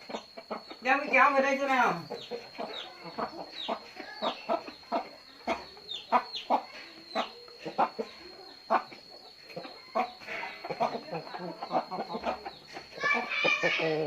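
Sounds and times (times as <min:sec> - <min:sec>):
chickens clucking: 0:00.0 - 0:14.0
faint steady high tone: 0:00.0 - 0:14.0.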